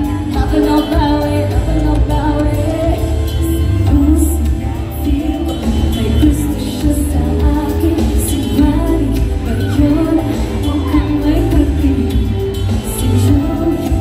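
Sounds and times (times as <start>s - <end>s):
bass-heavy backing track: 0.0s - 14.0s
woman singing into a microphone: 0.0s - 14.0s.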